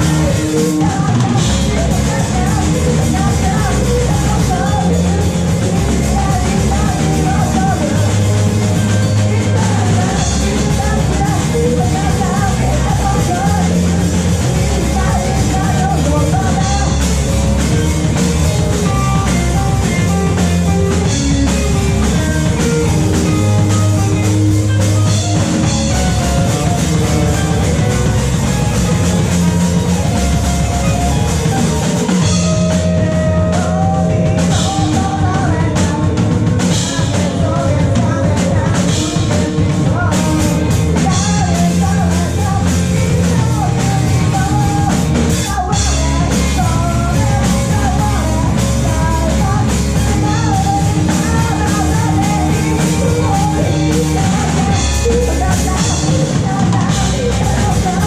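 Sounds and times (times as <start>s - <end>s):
live punk rock band: 0.0s - 58.0s
person singing lead vocal: 0.0s - 58.0s.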